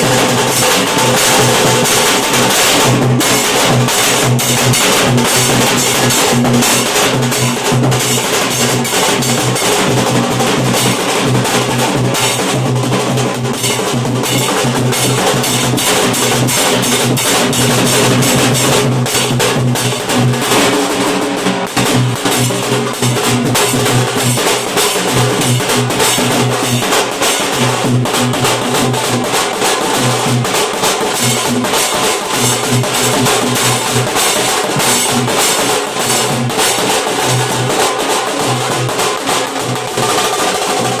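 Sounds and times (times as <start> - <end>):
dhol drumming: 0.0 - 41.0.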